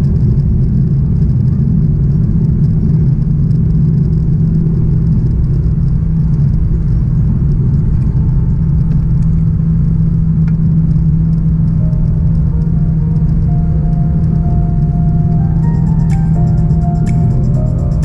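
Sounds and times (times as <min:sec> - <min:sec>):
jet engine cabin rumble: 0:00.0 - 0:18.0.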